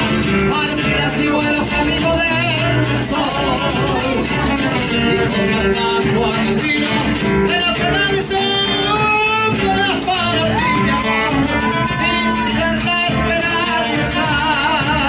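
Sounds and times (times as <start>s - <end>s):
folk ensemble led by guitar: 0.0s - 15.0s.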